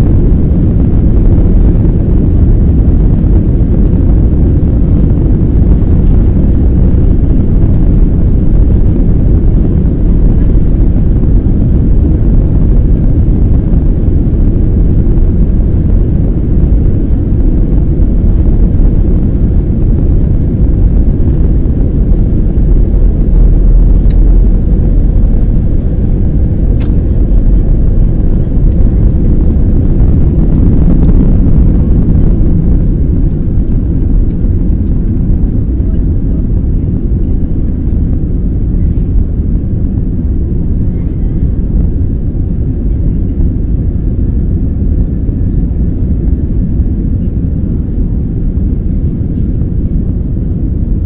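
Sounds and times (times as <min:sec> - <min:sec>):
jet engines at takeoff thrust: 0:00.0 - 0:51.0.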